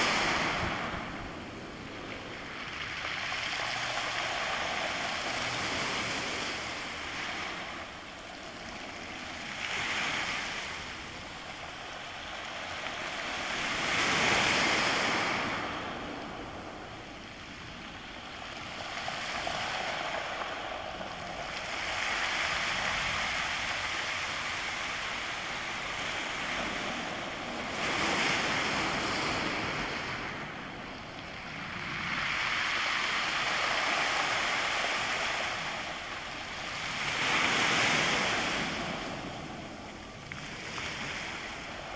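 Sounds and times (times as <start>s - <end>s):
sea backwash rolling stones: 0.0s - 41.9s.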